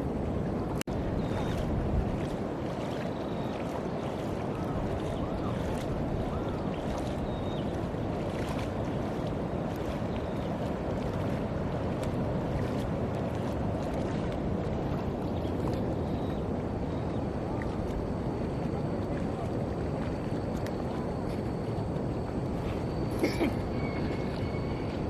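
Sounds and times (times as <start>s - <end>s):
rushing water: 0.0s - 25.0s
wind: 0.0s - 25.0s.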